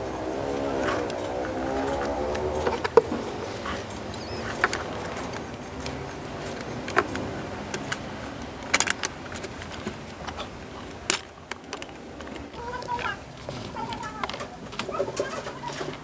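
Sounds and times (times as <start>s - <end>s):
hard plastic parts clicking: 0.4s - 16.0s.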